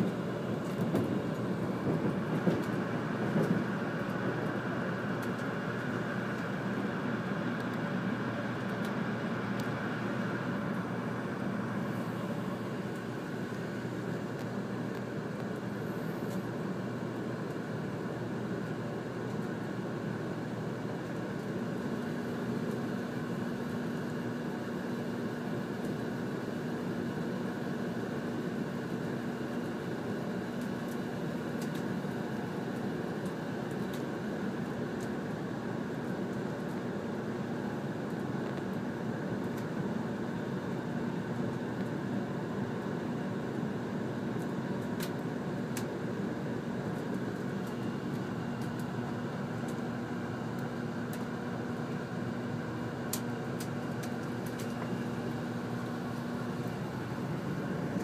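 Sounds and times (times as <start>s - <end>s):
train running noise inside car: 0.0s - 58.0s.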